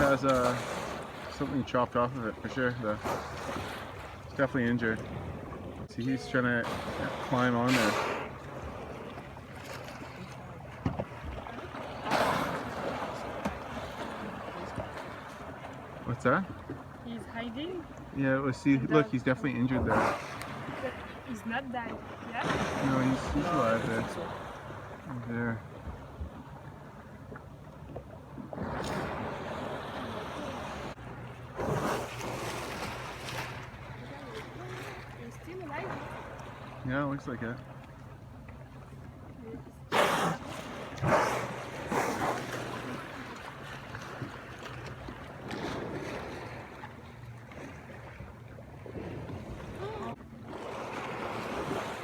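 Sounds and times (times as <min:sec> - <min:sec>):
water lapping around boats: 0:00.0 - 0:52.0.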